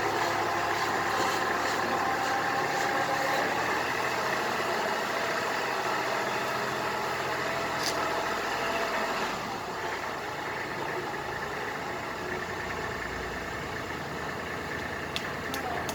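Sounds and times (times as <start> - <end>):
tractor diesel engine idling: 0.0 - 15.9.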